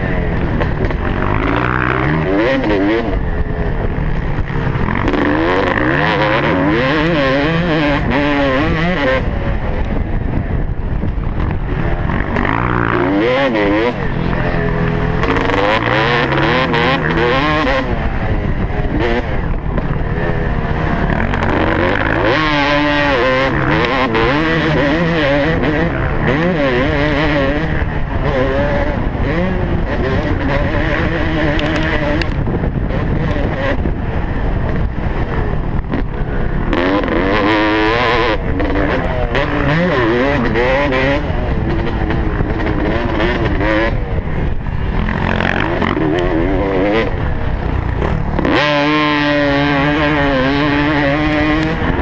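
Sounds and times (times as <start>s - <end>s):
dirt bike engine revving: 0.0s - 52.0s
steady rushing noise: 0.0s - 52.0s.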